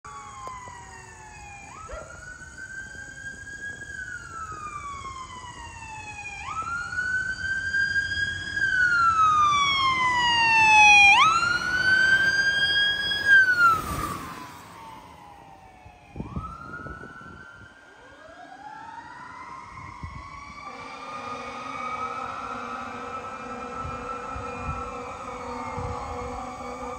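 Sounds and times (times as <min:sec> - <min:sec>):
fire engine siren wailing: 0:00.0 - 0:26.9.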